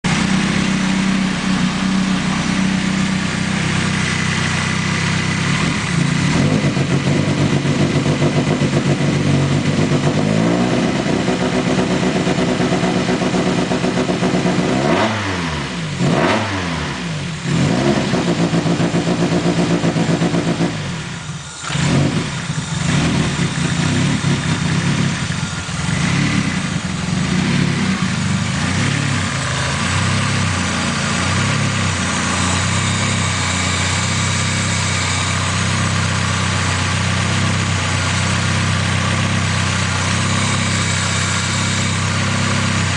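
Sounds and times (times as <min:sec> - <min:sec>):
car engine idling roughly: 0:00.0 - 0:14.7, 0:18.1 - 0:42.9.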